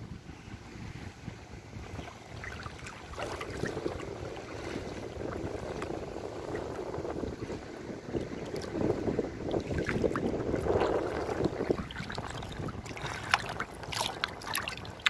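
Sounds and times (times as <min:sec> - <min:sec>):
wind rumble on microphone: 0:00.0 - 0:15.0
seawater sloshing and splashing: 0:01.6 - 0:15.0.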